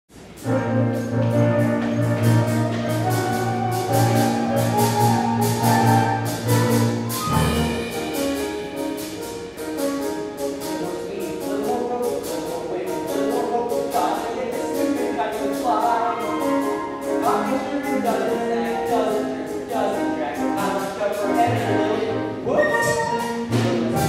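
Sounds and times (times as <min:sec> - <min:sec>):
orchestra and brass playing: 0:00.2 - 0:24.0.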